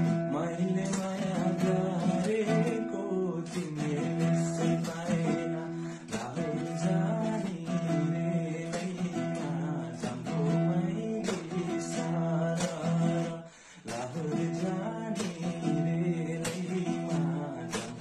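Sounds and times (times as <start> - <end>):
acoustic guitar strumming: 0.0 - 18.0
young man singing: 0.0 - 18.0.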